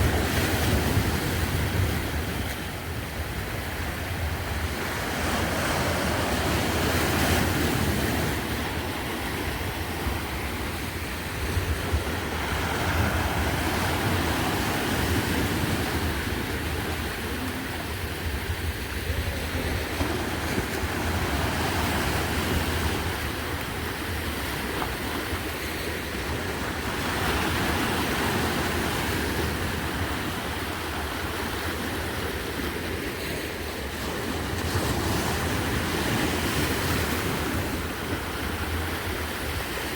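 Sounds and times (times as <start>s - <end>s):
sea waves washing ashore: 0.0s - 39.9s
wind rumble on microphone: 0.0s - 39.9s.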